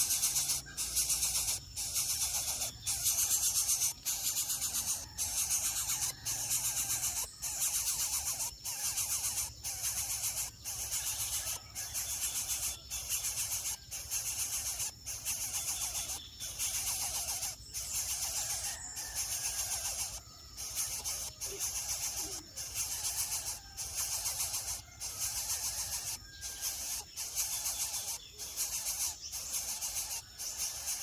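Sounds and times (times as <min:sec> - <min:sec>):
nestlings trilling begging calls: 0:00.0 - 0:31.0.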